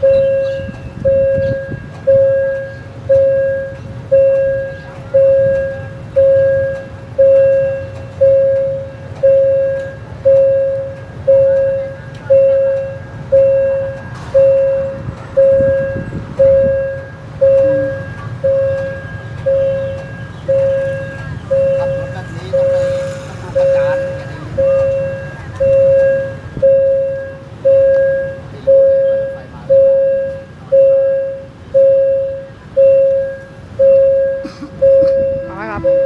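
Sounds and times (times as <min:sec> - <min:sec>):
level crossing bell ringing: 0:00.0 - 0:36.0
low engine rumble: 0:00.0 - 0:36.0.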